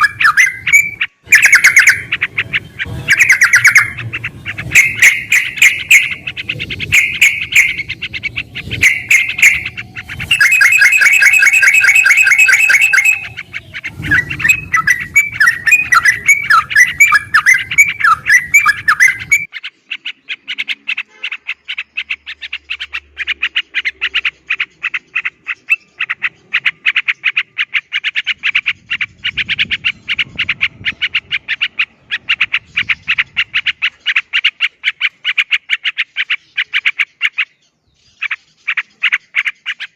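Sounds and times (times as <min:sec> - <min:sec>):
bird chattering chirps: 0:00.0 - 0:39.9
loud dense bird trill: 0:00.0 - 0:39.9.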